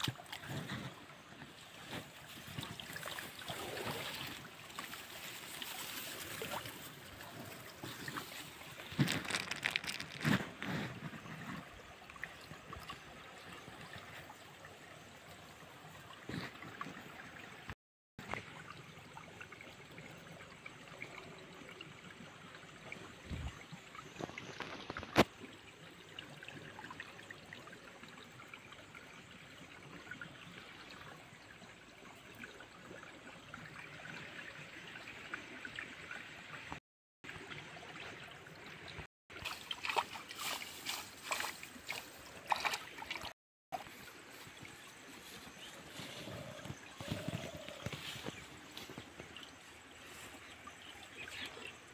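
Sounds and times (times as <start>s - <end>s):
small water splashes: 0.0s - 51.9s
stream water trickling: 0.0s - 51.9s.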